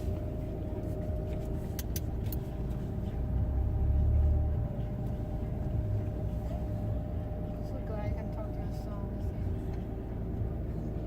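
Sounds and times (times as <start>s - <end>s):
engine whine: 0.0s - 11.0s
road rumble: 0.0s - 11.0s.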